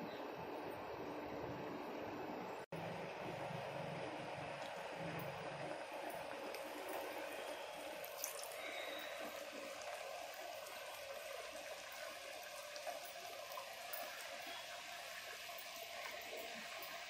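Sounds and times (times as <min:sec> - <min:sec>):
dough deep-frying in hot oil: 0:00.0 - 0:17.0.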